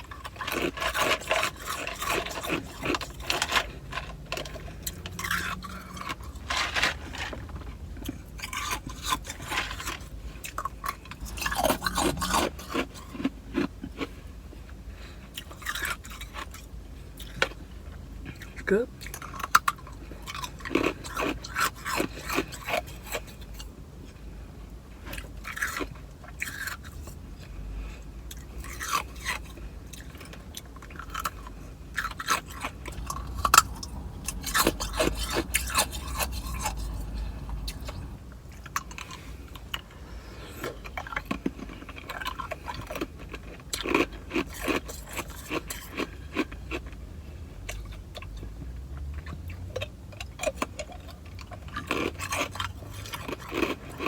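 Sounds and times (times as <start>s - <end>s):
person chewing ice: 0.0s - 23.7s, 25.0s - 54.0s.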